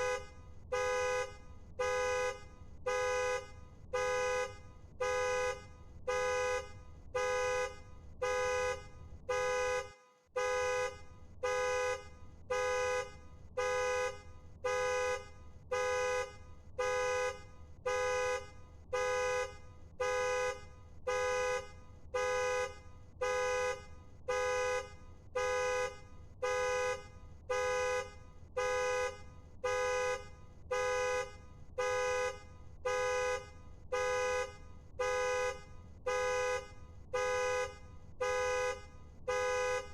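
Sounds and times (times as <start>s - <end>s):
car horn blasts: 0.0s - 39.9s.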